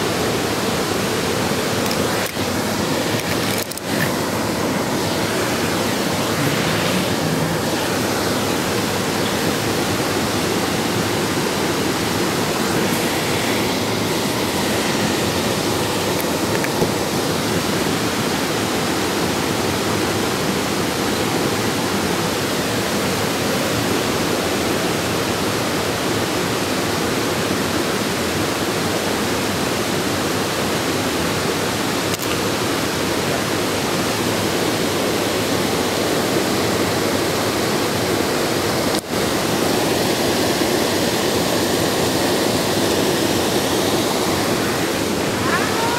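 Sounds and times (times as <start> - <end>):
water rushing over waterfall: 0.0 - 45.9.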